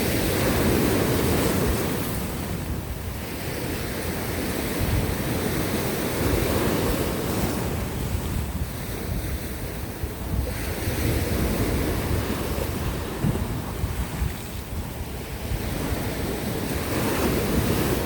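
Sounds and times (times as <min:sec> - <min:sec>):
waves breaking over rocks: 0:00.0 - 0:18.0
wind buffeting microphone: 0:00.0 - 0:18.0.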